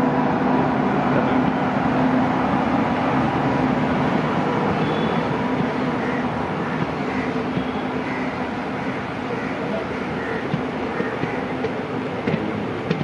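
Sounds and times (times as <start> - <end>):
electric locomotive hum: 0.0 - 13.0
passenger coaches rolling past: 0.0 - 13.0
wheels rumbling on rails: 0.0 - 13.0.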